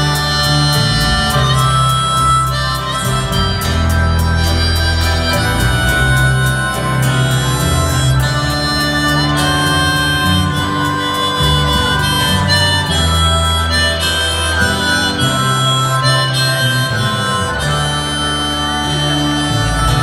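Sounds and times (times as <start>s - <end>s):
harmonica melody with bent notes: 0.0s - 20.0s
rock band playing: 0.0s - 20.0s.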